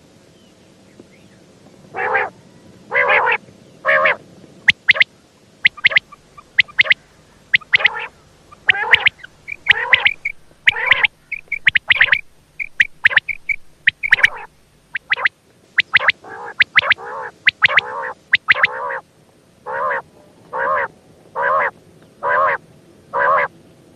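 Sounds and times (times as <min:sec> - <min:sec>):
quail calling: 0:02.0 - 0:02.3, 0:02.9 - 0:19.0, 0:19.6 - 0:23.5.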